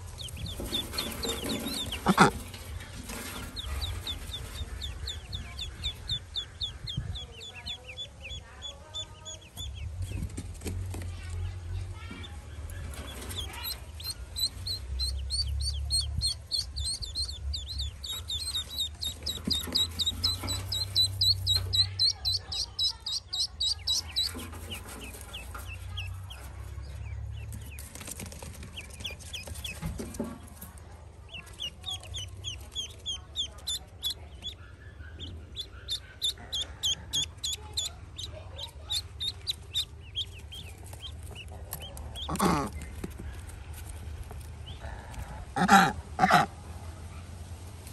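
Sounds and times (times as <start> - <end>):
ducklings peeping shrilly: 0.0 - 10.4, 11.8 - 30.1, 31.2 - 46.6.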